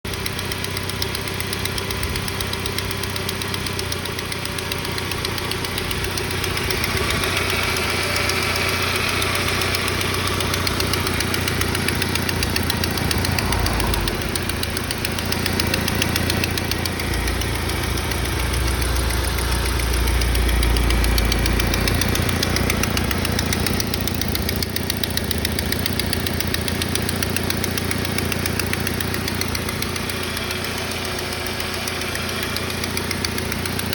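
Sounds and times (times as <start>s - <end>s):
car engine idling: 0.0s - 33.9s
fast engine knock: 0.0s - 33.9s.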